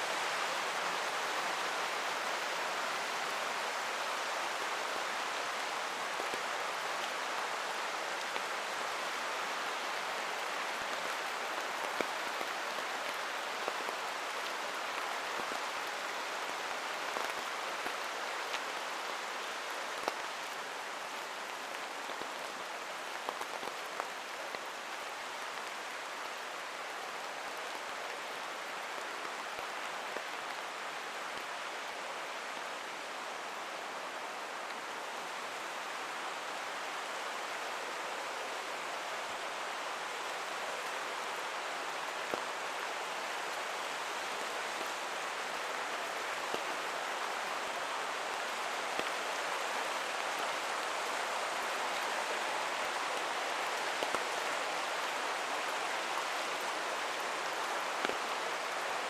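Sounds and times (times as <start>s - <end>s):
creek flowing: 0.0s - 59.0s
rain falling through forest: 0.0s - 59.0s.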